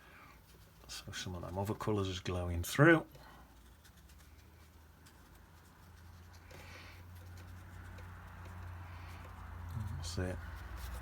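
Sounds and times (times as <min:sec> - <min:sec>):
brush strokes on paper: 0:00.0 - 0:11.0.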